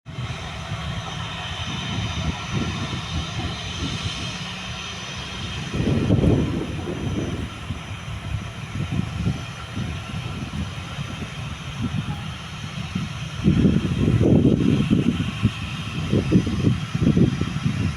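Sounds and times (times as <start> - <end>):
jet engines whining: 0.1 - 17.9.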